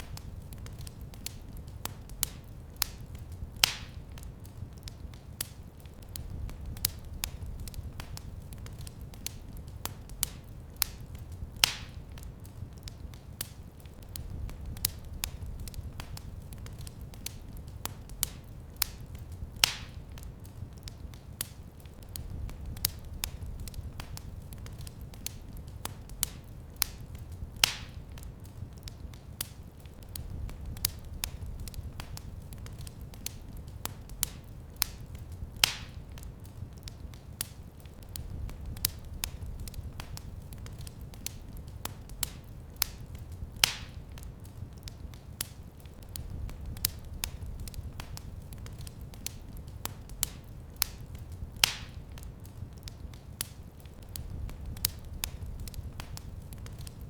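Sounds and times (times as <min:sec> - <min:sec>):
fire popping: 0:00.0 - 0:57.0
wood fire crackling: 0:00.0 - 0:57.0.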